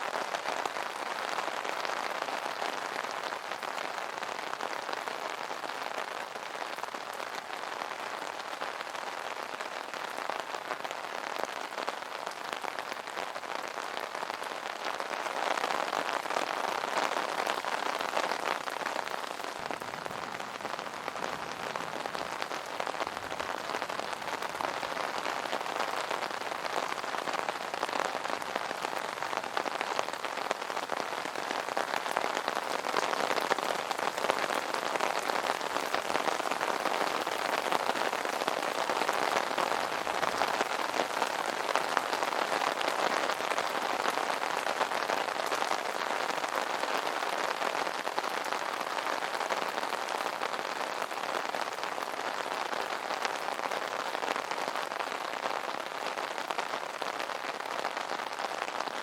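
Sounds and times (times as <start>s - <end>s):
rain on an umbrella: 0.0s - 59.0s.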